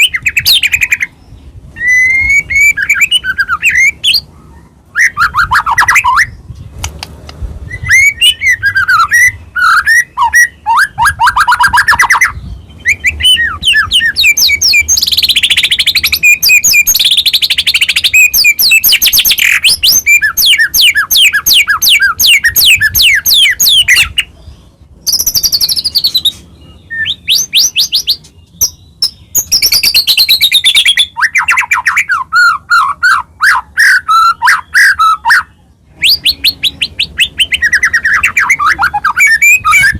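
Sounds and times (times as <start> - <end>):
songbird singing loudly: 0.0 - 7.0, 7.6 - 39.9.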